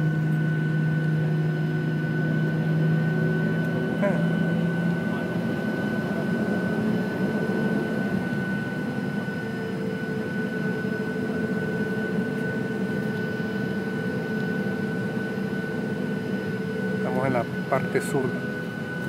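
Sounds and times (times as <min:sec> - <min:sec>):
airliner engines humming: 0:00.0 - 0:19.0
high engine whine: 0:00.0 - 0:19.0.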